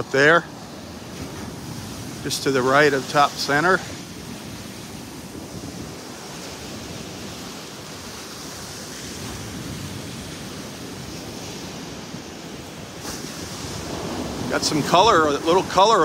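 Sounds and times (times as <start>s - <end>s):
surf: 0.0s - 16.0s
wind: 0.0s - 16.0s.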